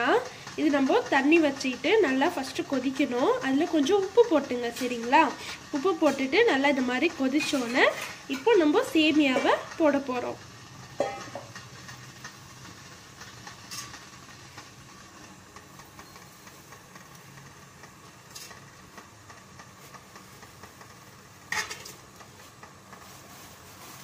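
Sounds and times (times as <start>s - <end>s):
water heating in a pot: 0.0s - 24.0s.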